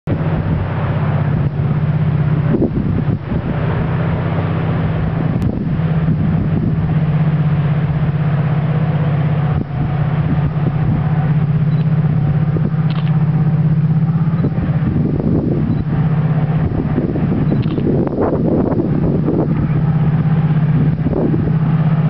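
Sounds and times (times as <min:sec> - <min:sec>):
diesel locomotive drone: 0:00.0 - 0:22.0.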